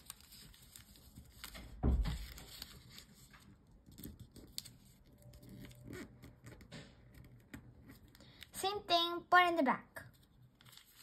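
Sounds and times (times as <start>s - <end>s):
paper rustling and creasing: 0.0s - 8.5s, 10.0s - 11.0s.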